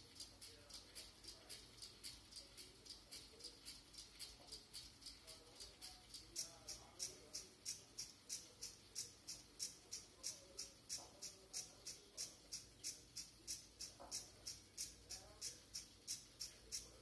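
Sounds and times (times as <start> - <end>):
faint mechanical ticking: 0.0 - 17.0.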